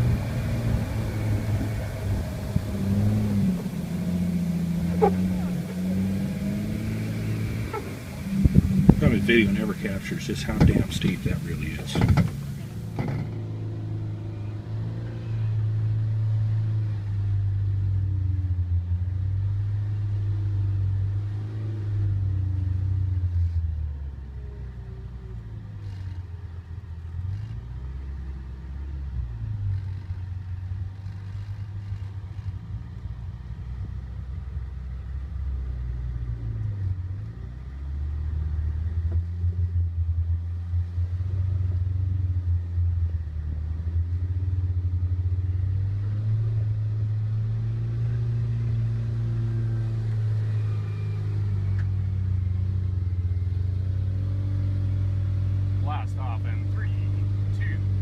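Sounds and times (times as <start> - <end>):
engine running low inside cab: 0.0 - 58.0.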